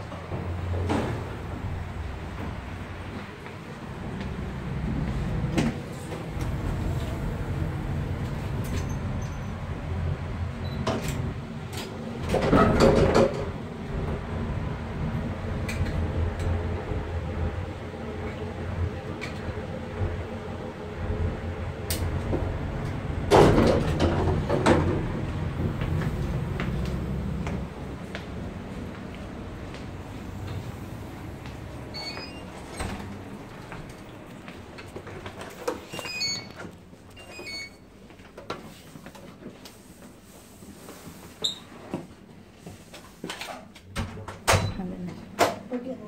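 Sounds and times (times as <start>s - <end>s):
lift car humming: 0.0s - 38.0s
sliding doors rumbling open: 0.0s - 45.7s.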